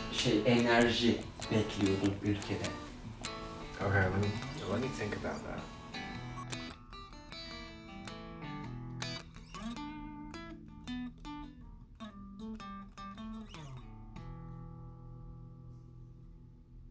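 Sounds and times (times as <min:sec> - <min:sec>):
soft guitar music: 0:00.0 - 0:16.9.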